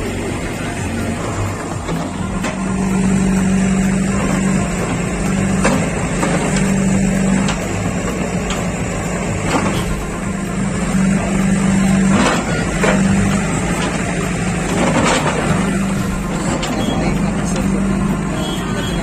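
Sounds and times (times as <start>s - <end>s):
diesel engine running hard: 0.0s - 19.0s.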